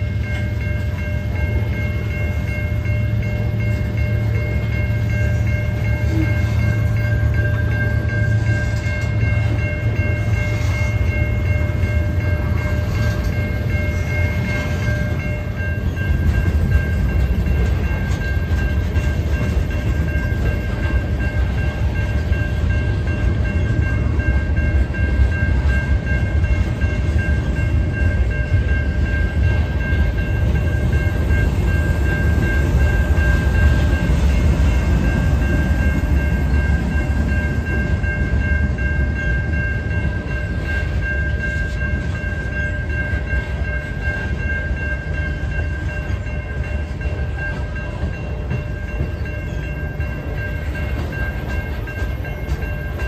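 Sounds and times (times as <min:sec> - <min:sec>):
crossing signal bell ringing: 0:00.0 - 0:53.0
freight train rumbling on rails: 0:00.0 - 0:53.0.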